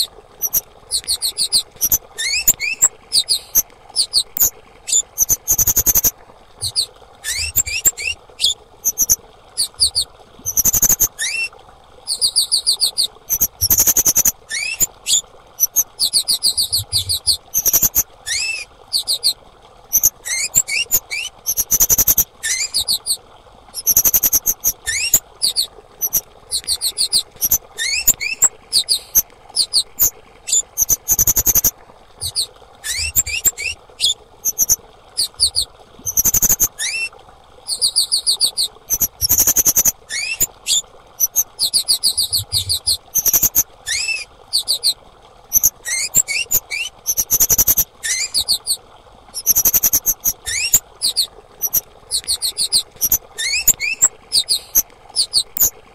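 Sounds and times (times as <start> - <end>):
insect calling with chirps: 0.0 - 11.5, 12.1 - 23.2, 23.8 - 37.1, 37.7 - 48.8, 49.4 - 55.7
faint steady hum: 0.0 - 55.9.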